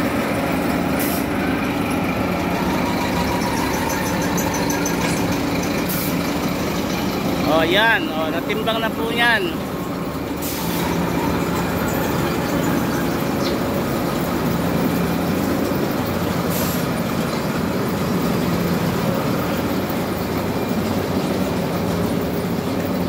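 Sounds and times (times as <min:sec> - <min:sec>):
machinery rumbling and humming: 0:00.0 - 0:23.0.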